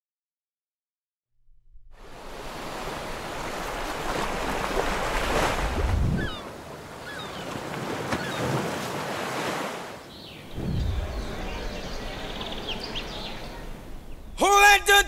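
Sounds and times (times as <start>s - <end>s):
wind: 1.7s - 15.0s
ocean surf washing in: 2.0s - 14.4s.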